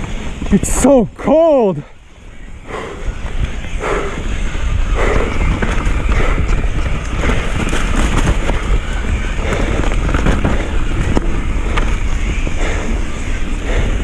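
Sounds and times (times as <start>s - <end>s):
bike clicks and rattles: 0.0s - 1.0s, 2.7s - 14.0s
bike tyre noise: 0.0s - 14.0s
wind buffeting microphone: 0.0s - 14.0s.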